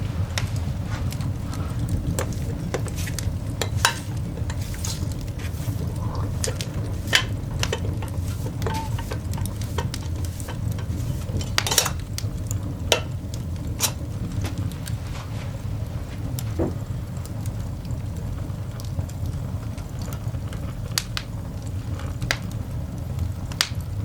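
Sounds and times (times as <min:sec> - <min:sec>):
coal fire crackling: 0:00.0 - 0:24.0.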